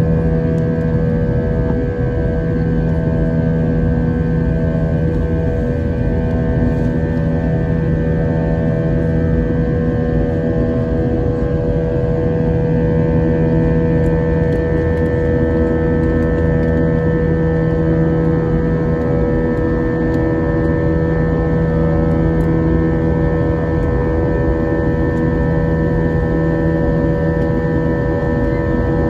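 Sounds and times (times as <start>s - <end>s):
jet engine drone: 0.0s - 29.0s.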